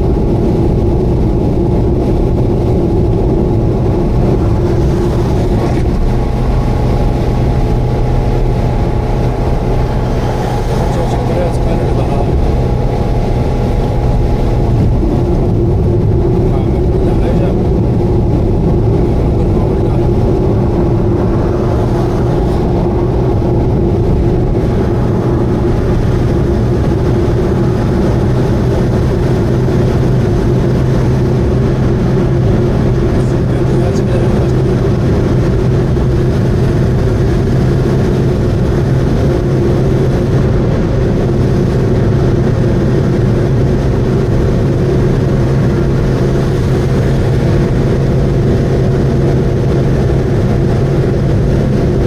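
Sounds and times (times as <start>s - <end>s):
car engine drone: 0.0s - 52.0s
road and wind noise: 0.0s - 52.0s.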